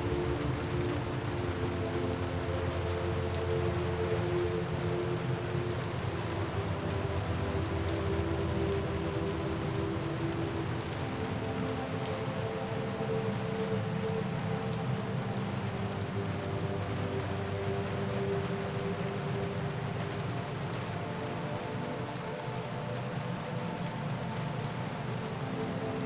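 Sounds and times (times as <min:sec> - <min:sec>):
steady rain: 0:00.0 - 0:26.0
raindrop ticks: 0:00.1 - 0:21.6.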